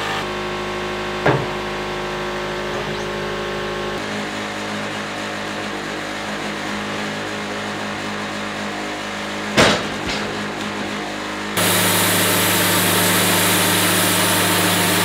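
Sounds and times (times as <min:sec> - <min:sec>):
sawmill diesel engine running: 0:00.0 - 0:15.0.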